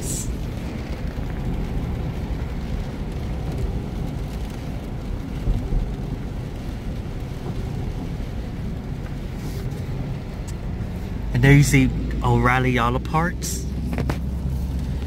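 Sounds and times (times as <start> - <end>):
car engine rumble: 0.0 - 15.0
tyres on wet road: 0.0 - 15.0.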